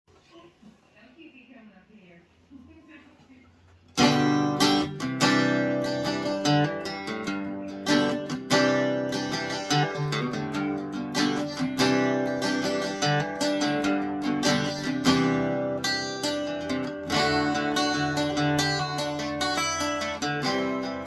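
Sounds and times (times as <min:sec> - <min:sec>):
acoustic guitar strummed chords: 0:03.9 - 0:21.0.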